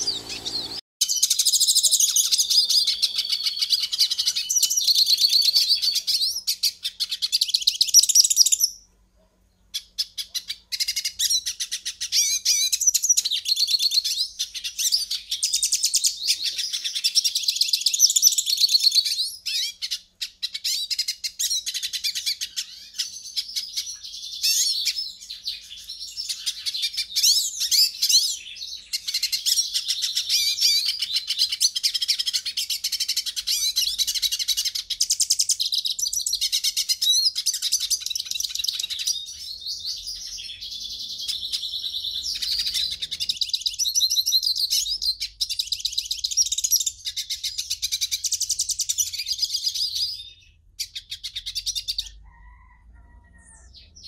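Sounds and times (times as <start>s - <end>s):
finch twittering and trilling: 0.0s - 8.9s, 9.6s - 52.7s.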